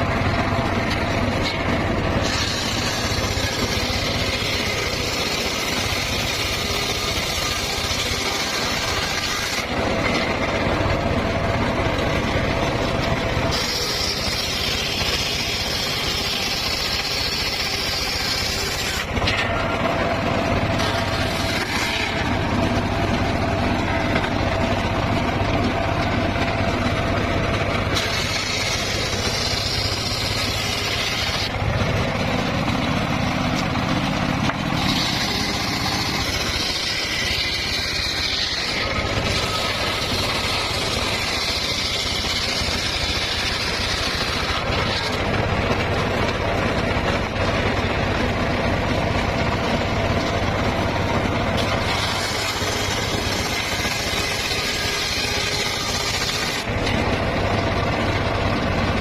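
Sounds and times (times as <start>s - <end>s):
saw blade cutting timber: 0.0s - 59.0s
sawmill engine hum: 0.0s - 59.0s.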